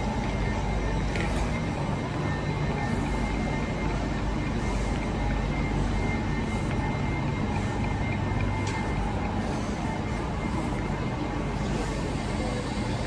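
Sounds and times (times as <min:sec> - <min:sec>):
faint whining tones: 0:00.0 - 0:13.0
train rumble and hiss: 0:00.0 - 0:13.0.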